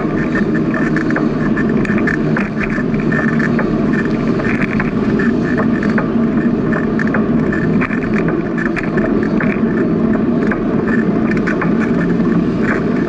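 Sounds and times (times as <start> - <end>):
bicycle tyre noise: 0.0 - 13.0
wind on microphone: 0.0 - 13.0.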